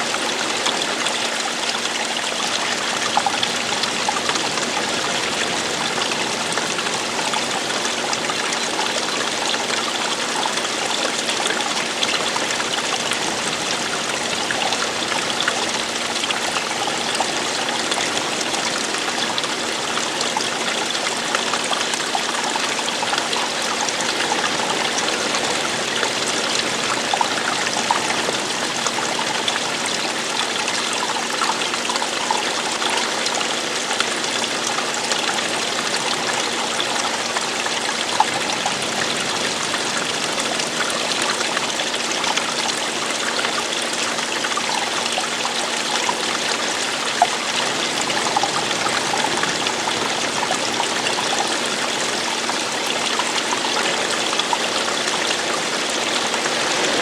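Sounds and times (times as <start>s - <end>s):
stream flowing and splashing: 0.0s - 57.0s.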